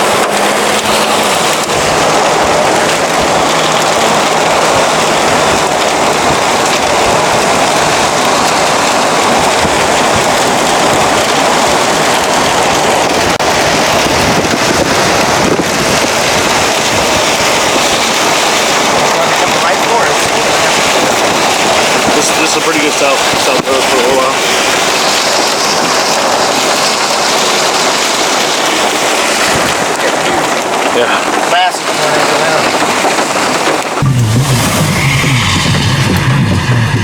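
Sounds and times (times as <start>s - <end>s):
rain and wind on a car: 0.0s - 37.0s
road noise: 0.0s - 37.0s.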